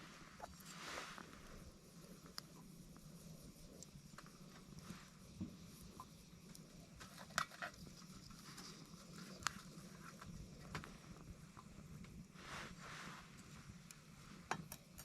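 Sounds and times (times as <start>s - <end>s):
low steady hiss: 0.0s - 15.0s
wood fire crackling and popping: 1.2s - 12.4s, 13.4s - 15.0s.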